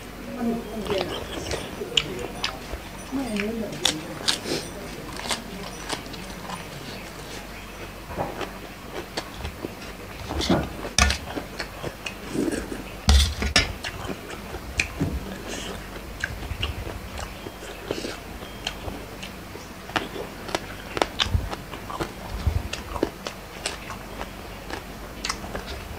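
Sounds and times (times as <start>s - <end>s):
crunching and chewing: 0.0s - 25.9s.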